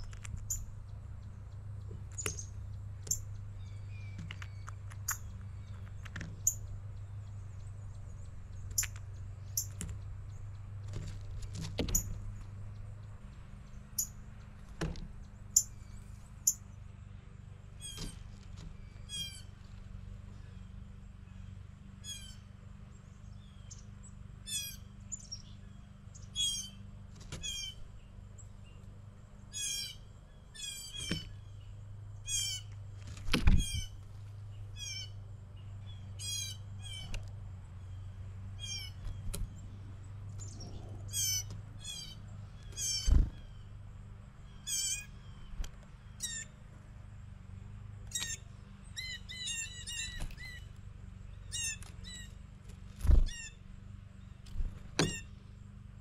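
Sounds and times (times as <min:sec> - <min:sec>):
faint low hum: 0:00.0 - 0:56.0
songbirds chattering calls: 0:00.0 - 0:56.0.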